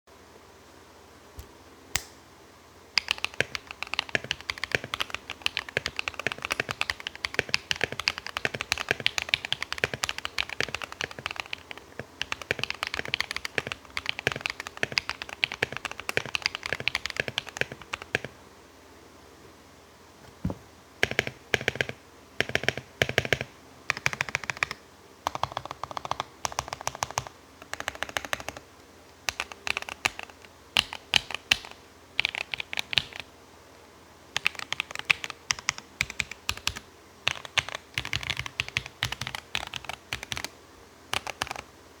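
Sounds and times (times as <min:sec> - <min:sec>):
mechanical keyboard typing: 0:03.0 - 0:18.3, 0:21.0 - 0:28.6, 0:29.2 - 0:33.3, 0:34.4 - 0:40.5, 0:41.1 - 0:41.6.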